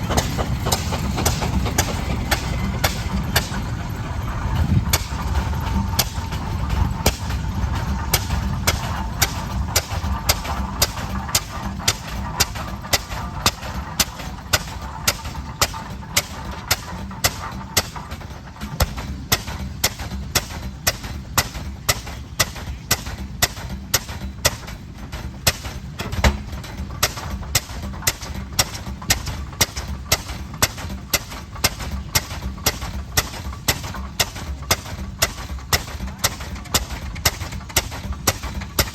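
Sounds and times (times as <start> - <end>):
tractor engine exhaust banging: 0.0 - 38.9.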